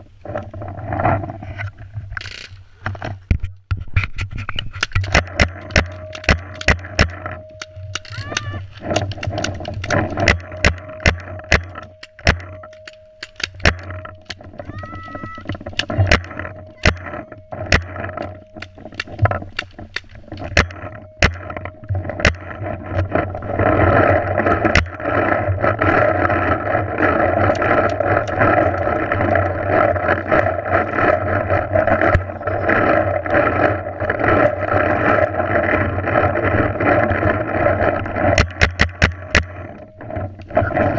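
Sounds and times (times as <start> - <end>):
steady rushing noise: 3.8 - 40.9.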